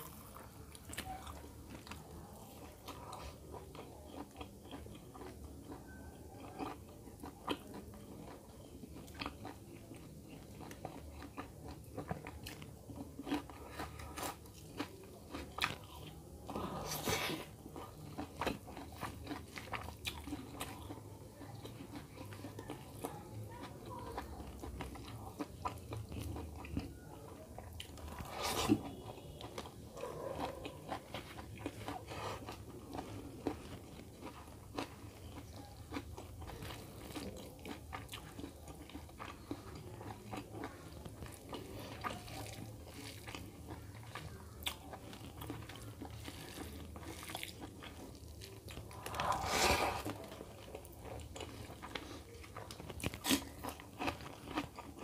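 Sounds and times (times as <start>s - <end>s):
food crunching: 0.0s - 55.0s
wet chewing and mouth smacks: 0.0s - 55.0s.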